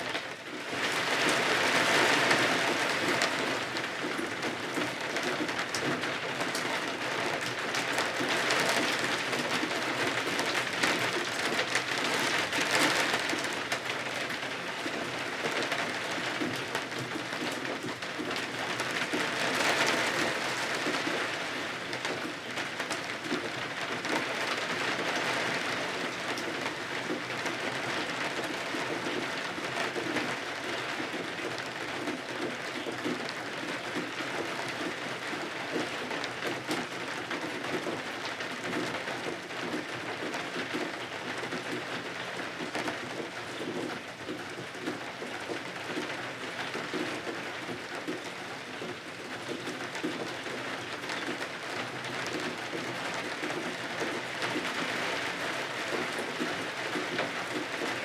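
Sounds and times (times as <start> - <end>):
steady rain: 0.0 - 58.0
raindrops ticking on surface: 0.1 - 58.0.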